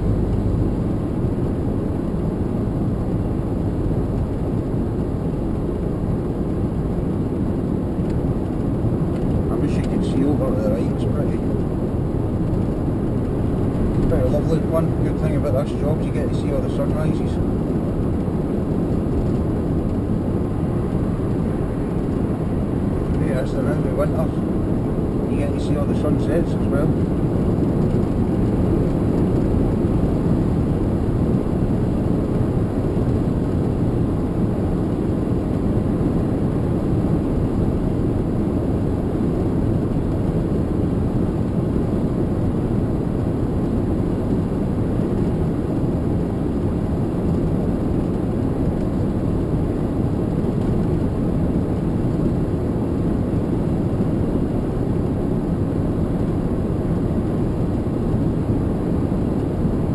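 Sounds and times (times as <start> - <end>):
lorry engine rumble: 0.0 - 59.9
road noise: 0.0 - 59.9.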